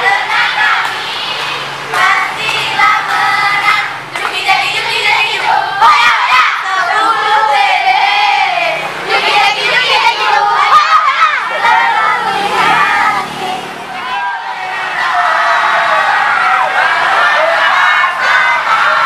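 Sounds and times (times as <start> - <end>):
crowd noise: 0.0 - 19.0
crowd singing a chant: 0.0 - 19.0.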